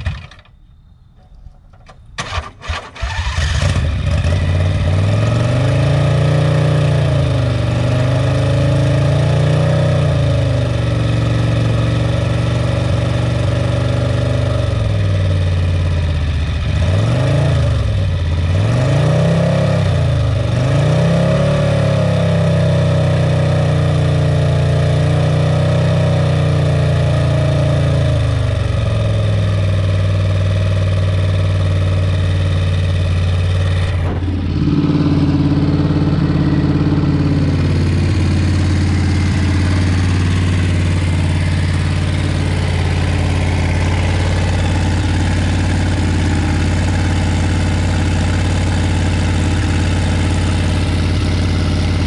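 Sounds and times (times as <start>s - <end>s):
engine revving and idling: 2.2s - 52.0s.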